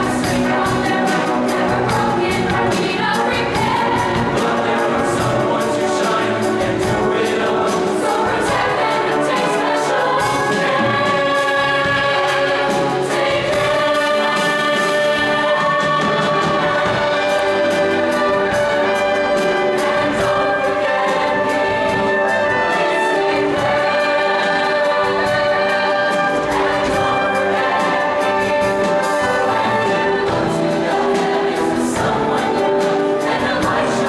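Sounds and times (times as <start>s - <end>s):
choir singing in harmony: 0.0s - 34.0s
live band with brass: 0.0s - 34.0s.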